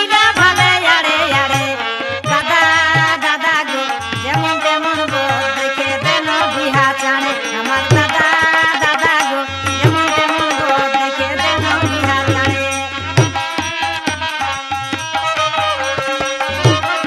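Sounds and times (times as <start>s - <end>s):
hand-drum rhythm: 0.0s - 17.0s.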